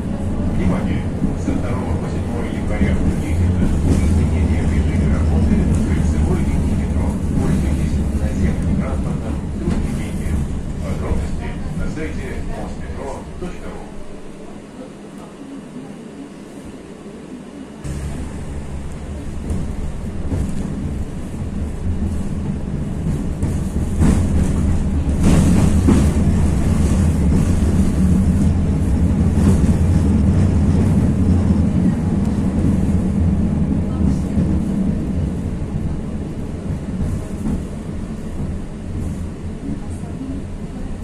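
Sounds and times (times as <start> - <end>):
tram traction hum: 0.0 - 41.0
tram wheels on rails: 0.0 - 41.0.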